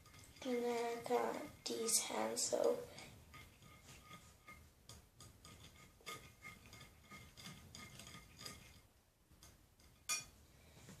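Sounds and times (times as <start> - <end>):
utensils scraping and tapping a plate: 0.0 - 10.4.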